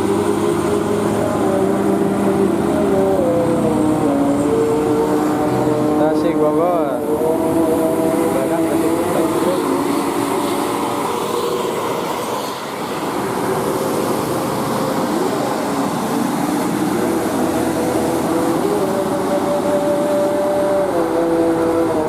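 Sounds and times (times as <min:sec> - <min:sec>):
heavy vehicle engine droning: 0:00.0 - 0:22.0.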